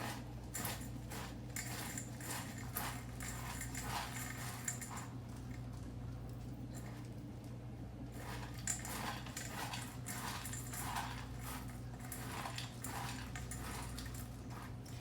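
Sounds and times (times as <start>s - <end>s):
spoon scraping wet dog food: 0.0s - 5.6s, 8.1s - 15.0s.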